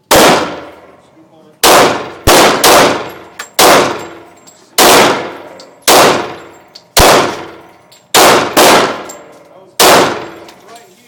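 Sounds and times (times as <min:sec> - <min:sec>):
pistol shots ringing out: 0:00.0 - 0:00.9, 0:01.6 - 0:10.5.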